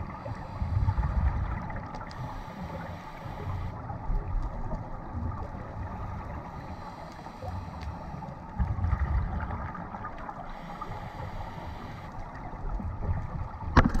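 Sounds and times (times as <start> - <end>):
underwater regulator bubbles gurgling: 0.0 - 14.0.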